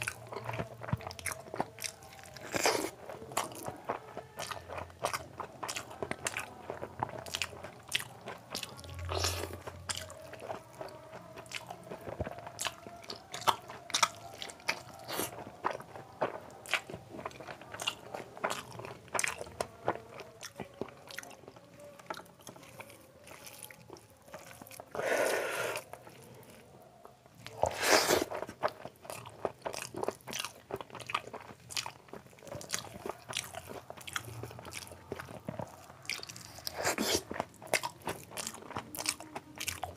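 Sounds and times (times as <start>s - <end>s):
wet chewing clicks and crunches: 0.0s - 39.9s.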